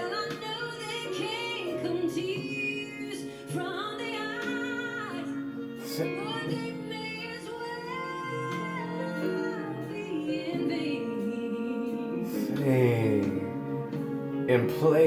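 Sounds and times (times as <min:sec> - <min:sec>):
woman singing long held notes: 0:00.0 - 0:14.4.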